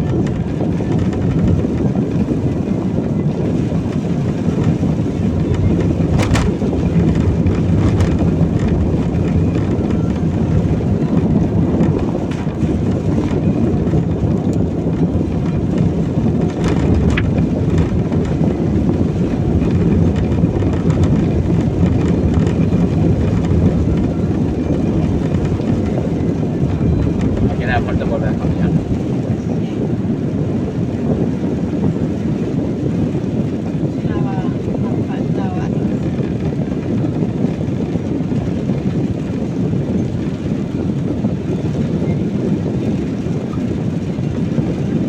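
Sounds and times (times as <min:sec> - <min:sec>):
road and tyre noise in car: 0:00.0 - 0:45.0.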